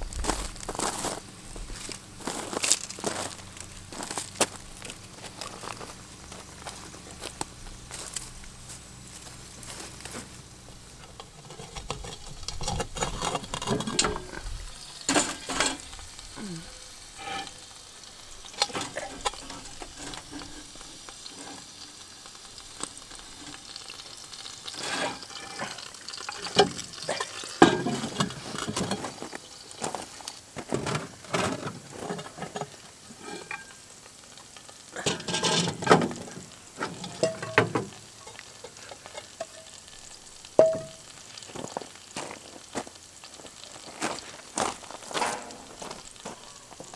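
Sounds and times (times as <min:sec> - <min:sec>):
cast iron pot clinking and scraping: 0:00.0 - 0:41.8, 0:44.6 - 0:46.9.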